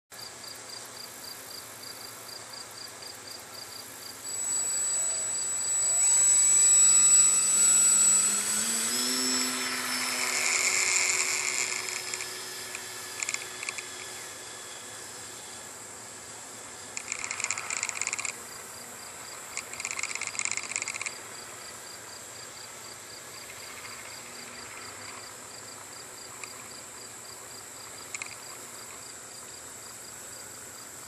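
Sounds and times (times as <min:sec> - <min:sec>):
electric motor and propeller whine: 0:02.9 - 0:31.0.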